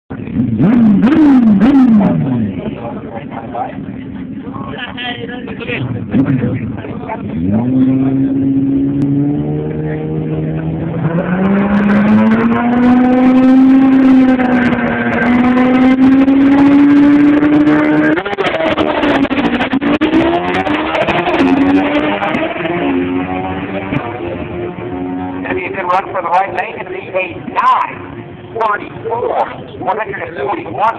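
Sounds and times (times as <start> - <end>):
racing car engine revving: 0.1 - 4.3, 5.3 - 30.9.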